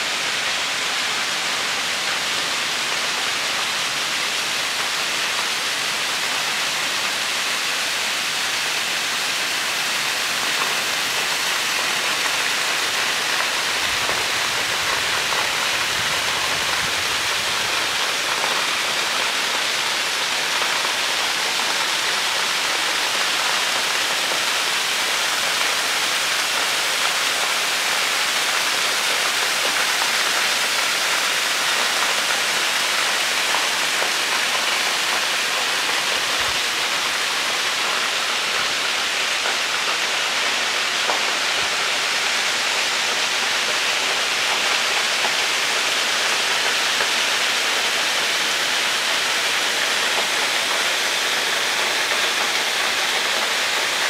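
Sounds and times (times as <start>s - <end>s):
small waterfall splashing into pool: 0.0s - 54.0s.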